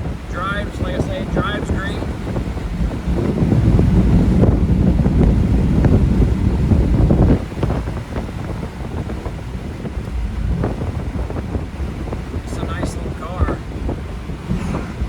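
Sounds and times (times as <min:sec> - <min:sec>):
car engine rumbling: 0:00.0 - 0:15.0
wind buffeting microphone: 0:00.0 - 0:15.0.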